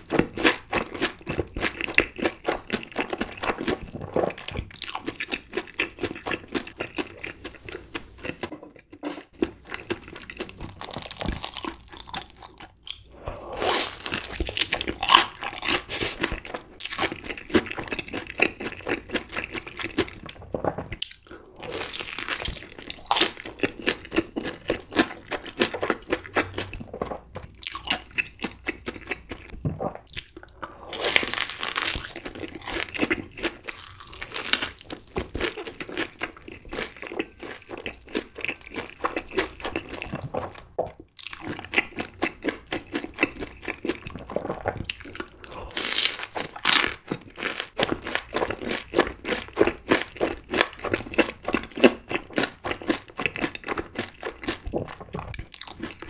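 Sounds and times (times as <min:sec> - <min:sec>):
crunchy chewing: 0:00.1 - 0:40.6, 0:41.2 - 0:56.0.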